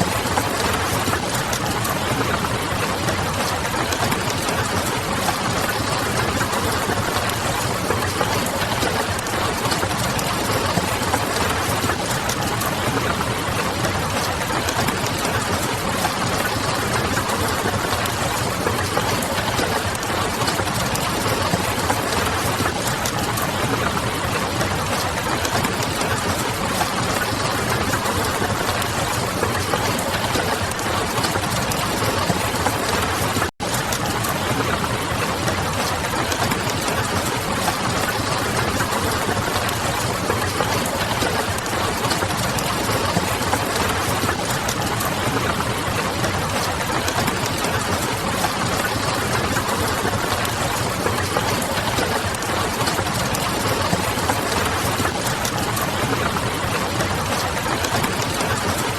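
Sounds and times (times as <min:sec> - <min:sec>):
rain pattering: 0:00.0 - 0:58.9.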